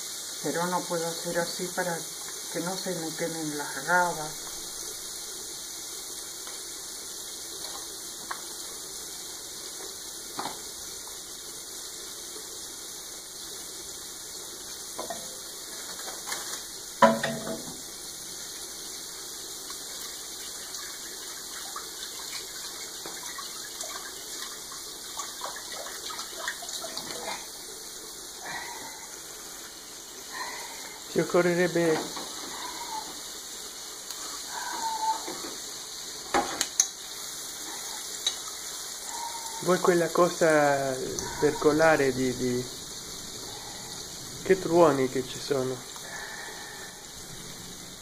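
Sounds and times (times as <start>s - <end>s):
squid rings sizzling in hot oil: 0.0s - 48.0s.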